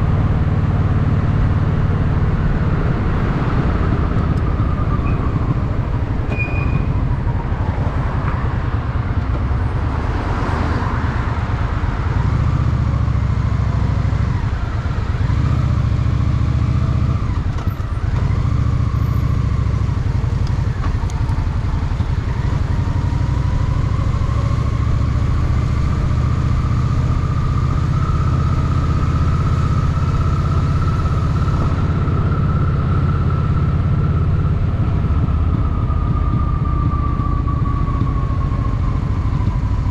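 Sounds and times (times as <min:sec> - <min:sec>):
motorcycle engine throbbing: 0:00.0 - 0:09.9, 0:11.6 - 0:39.9.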